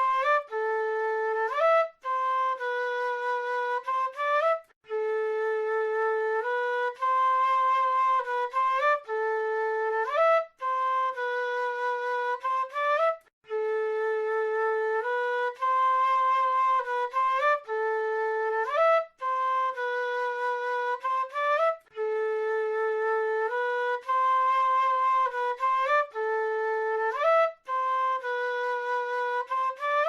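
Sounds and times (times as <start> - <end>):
flute playing slow melody: 0.0 - 30.0.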